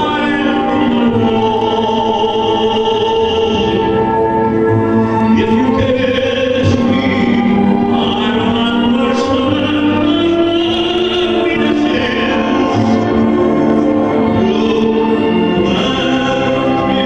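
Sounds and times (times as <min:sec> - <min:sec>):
man singing operatically: 0:00.0 - 0:17.0
musical accompaniment: 0:00.0 - 0:17.0.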